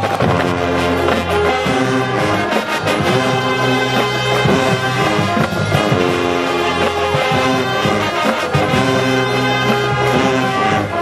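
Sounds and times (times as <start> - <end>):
brass section held chords: 0.0 - 11.0
marching band drum hits: 0.0 - 11.0.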